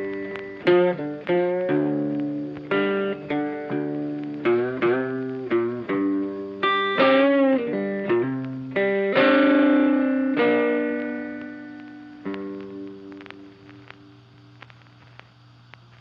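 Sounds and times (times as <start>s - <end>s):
electric guitar with effects: 0.0s - 16.0s.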